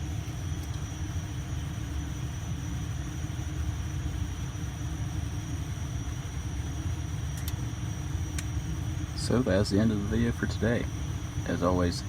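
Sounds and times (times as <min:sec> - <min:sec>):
room rumble and hum: 0:00.0 - 0:12.0.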